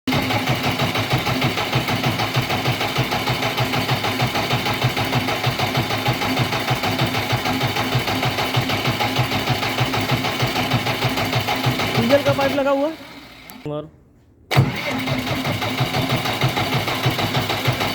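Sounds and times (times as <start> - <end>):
diesel engine misfiring: 0.1 - 13.5, 14.5 - 17.9.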